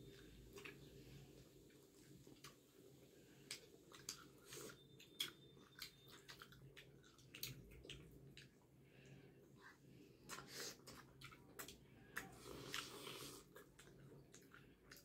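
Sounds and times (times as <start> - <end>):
low room hum: 0.0 - 15.0
people chewing: 0.0 - 15.0.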